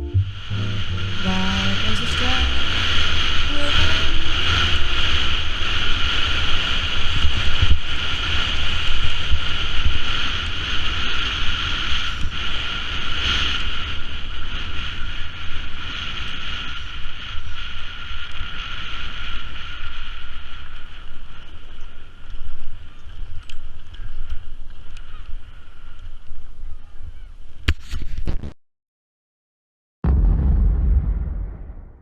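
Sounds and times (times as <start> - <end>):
wind buffeting microphone: 0.0 - 27.6.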